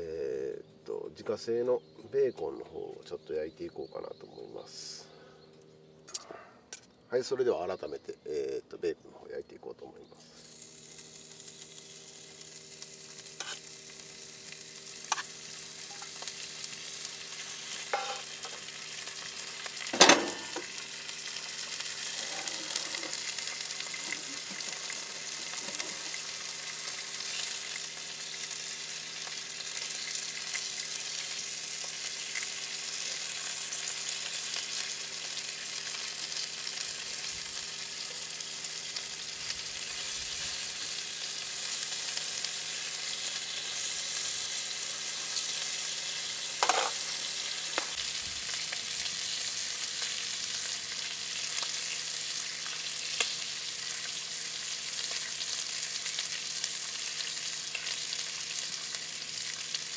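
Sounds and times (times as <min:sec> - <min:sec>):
bacon sizzling in a pan: 0:10.2 - 0:59.9.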